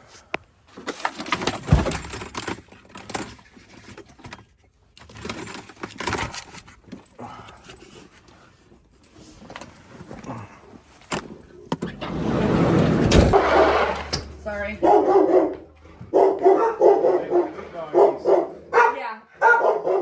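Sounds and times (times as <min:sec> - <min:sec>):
rustling and clattering objects: 0:00.0 - 0:18.7.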